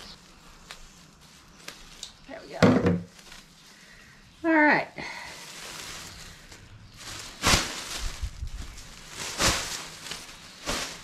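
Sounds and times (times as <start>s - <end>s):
plastic bag crinkling: 0.0s - 4.4s, 5.0s - 11.0s.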